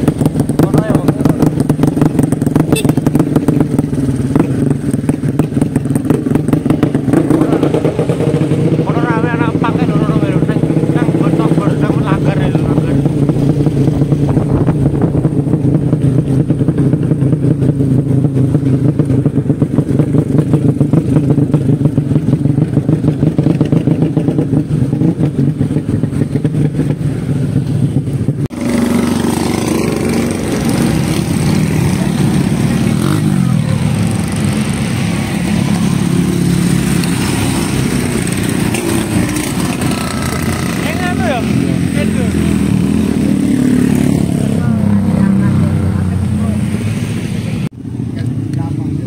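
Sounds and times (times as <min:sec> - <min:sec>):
motorcycle engine chopping exhaust: 0:00.0 - 0:47.1.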